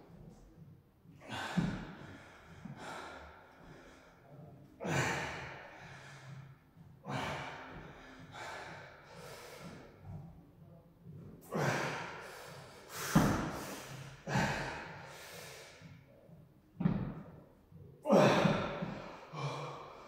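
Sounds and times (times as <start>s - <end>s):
man breathing hard: 1.2s - 10.4s, 11.4s - 16.4s, 18.0s - 20.0s.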